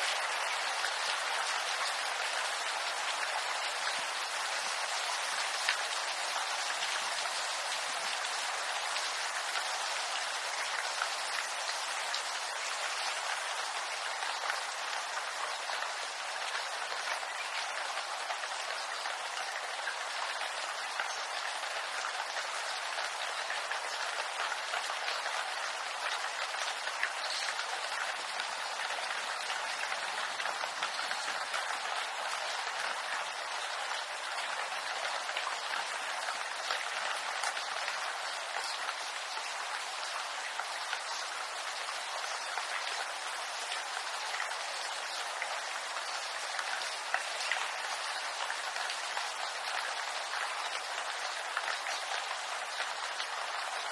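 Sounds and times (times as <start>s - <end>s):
rain on leaves: 0.0s - 53.9s.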